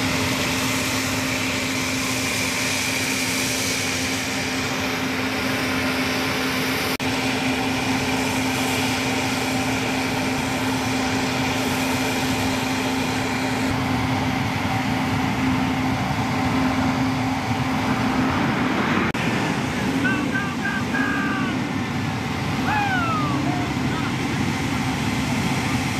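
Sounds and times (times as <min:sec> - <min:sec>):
hovercraft engines rushing and whining: 0:00.0 - 0:25.9.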